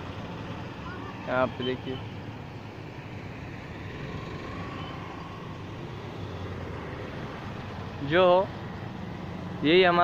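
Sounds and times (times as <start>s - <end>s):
road traffic: 0.0s - 10.0s.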